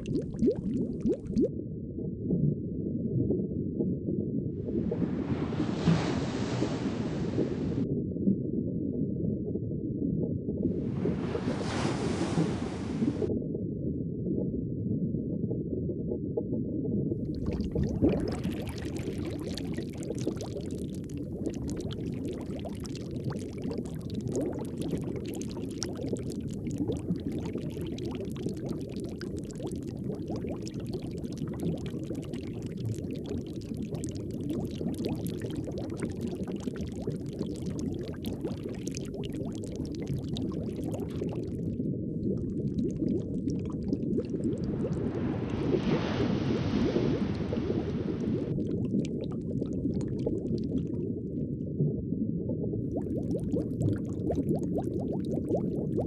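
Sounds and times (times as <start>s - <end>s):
underwater churning water: 0.0s - 2.4s, 4.6s - 13.4s, 14.4s - 56.0s.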